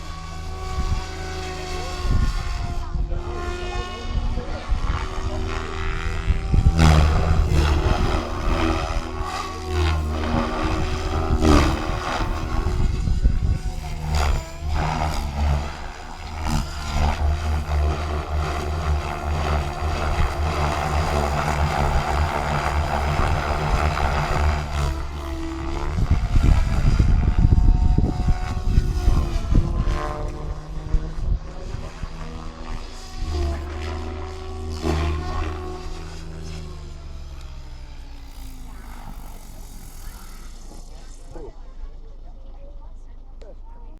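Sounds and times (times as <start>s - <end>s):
wind buffeting microphone: 0.0s - 42.0s
rc helicopter rotor whine: 0.0s - 43.9s.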